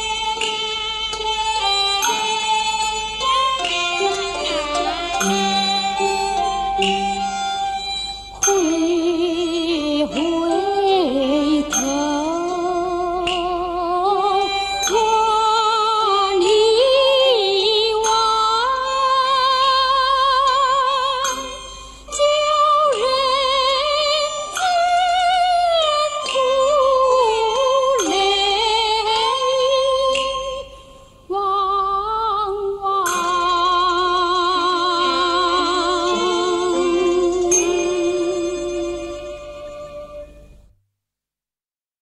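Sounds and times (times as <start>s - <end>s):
woman singing with vibrato: 3.2s - 40.2s.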